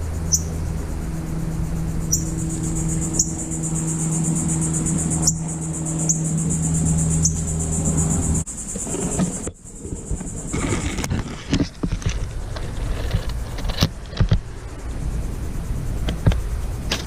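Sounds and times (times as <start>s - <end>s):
insects trilling: 0.0s - 17.0s
low steady hum: 0.0s - 17.0s.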